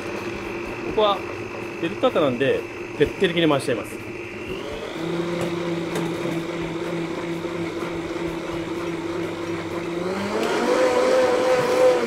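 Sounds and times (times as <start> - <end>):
blender motor running: 0.0 - 12.0.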